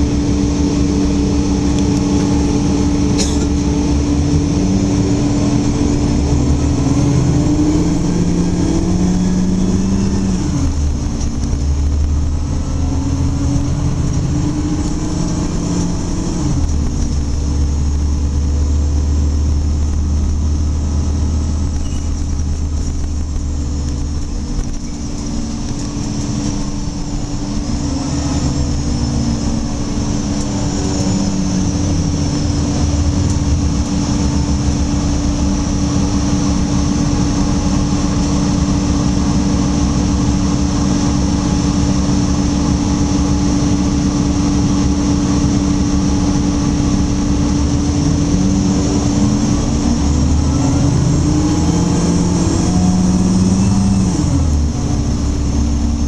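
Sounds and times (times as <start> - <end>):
bus diesel engine: 0.0 - 56.0
road noise: 0.0 - 56.0.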